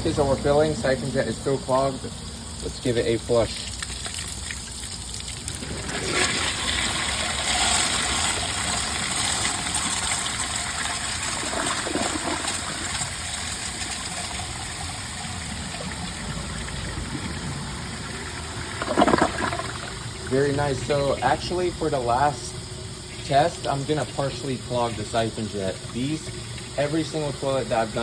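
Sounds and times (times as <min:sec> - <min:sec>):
toilet flushing: 0:00.0 - 0:28.0.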